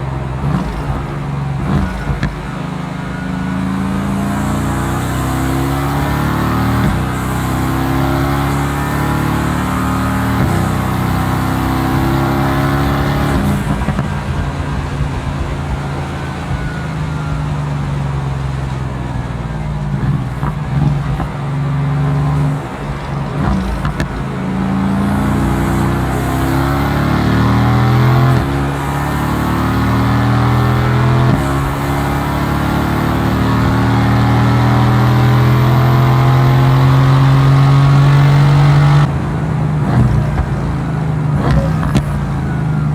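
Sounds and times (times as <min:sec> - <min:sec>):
car engine accelerating hard: 0:00.0 - 0:42.9
exhaust pops and crackles: 0:00.0 - 0:42.9.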